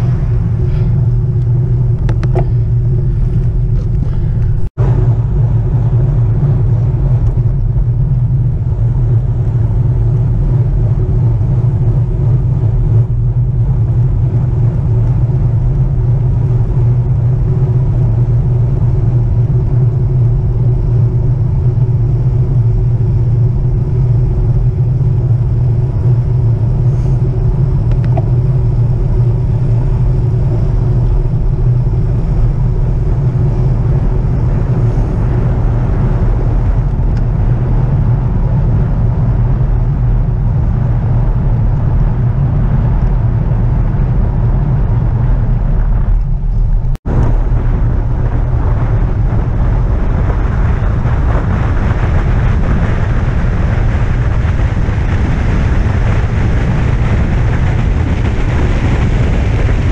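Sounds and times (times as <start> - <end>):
bicycle tyre and road noise: 0.0 - 59.9
wind buffeting microphone: 0.0 - 59.9.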